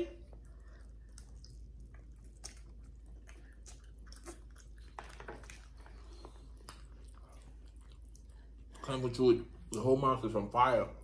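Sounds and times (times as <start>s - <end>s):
people chewing noodles: 0.0s - 9.9s.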